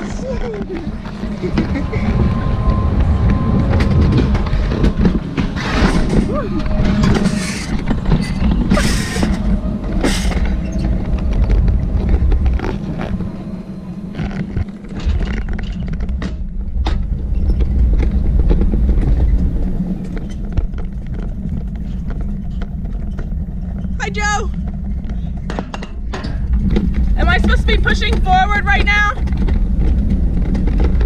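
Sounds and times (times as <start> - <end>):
coaster sled rumbling on rail: 0.0 - 31.0.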